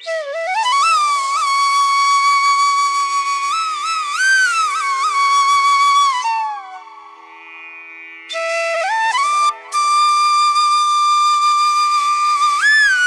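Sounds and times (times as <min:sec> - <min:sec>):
solo flute melody: 0:00.0 - 0:07.6, 0:08.3 - 0:13.0.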